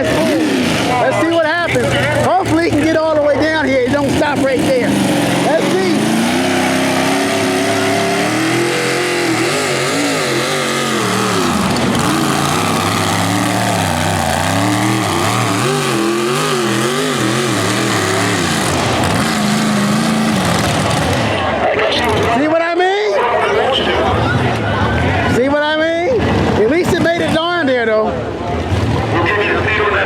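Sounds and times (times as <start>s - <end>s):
tractor engine surging under load: 0.0s - 30.0s.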